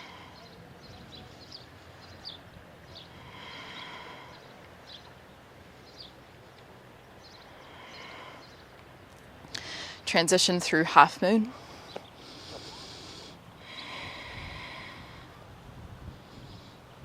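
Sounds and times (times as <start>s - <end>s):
birds chirping: 0.0s - 15.4s
background hiss: 0.0s - 17.0s.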